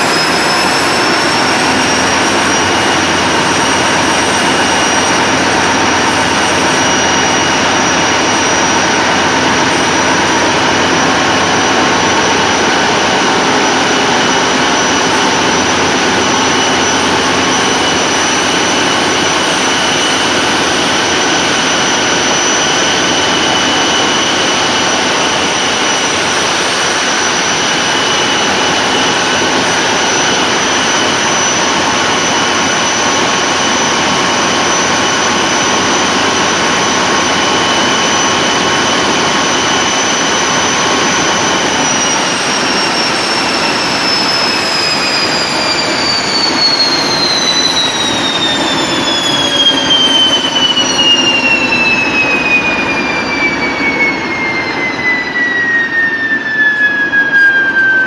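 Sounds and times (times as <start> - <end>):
diesel engine running: 0.0 - 53.0
turbocharger whistle: 0.0 - 58.0.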